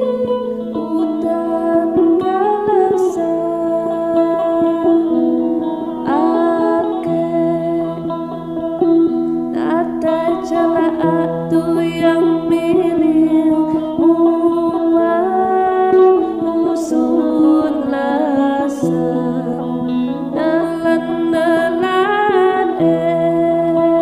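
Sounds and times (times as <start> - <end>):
plucked lutes melody and drone: 0.0 - 24.0.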